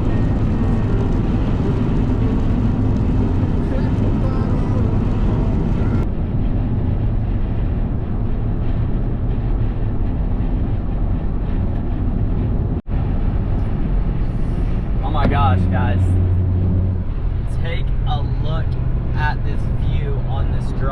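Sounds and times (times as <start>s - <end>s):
truck road and engine rumble: 0.0s - 20.9s.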